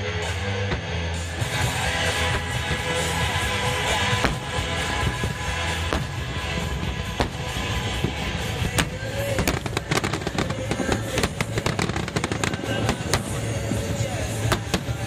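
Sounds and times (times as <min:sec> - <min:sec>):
low rumble: 0:00.0 - 0:15.0
fireworks bursting and crackling: 0:00.2 - 0:15.0.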